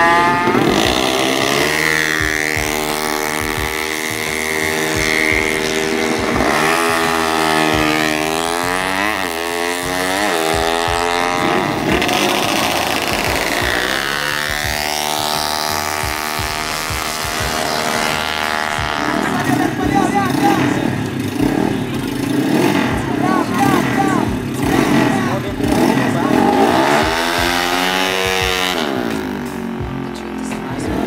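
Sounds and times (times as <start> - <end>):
high-revving motorcycle engine: 0.0 - 31.0.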